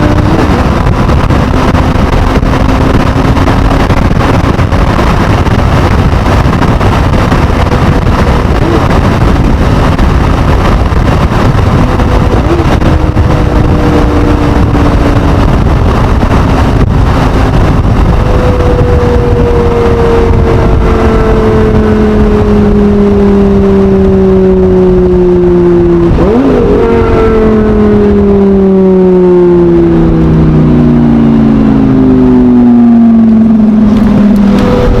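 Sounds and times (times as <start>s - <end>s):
sports car engine: 0.0s - 35.0s
wind and road noise: 0.0s - 35.0s.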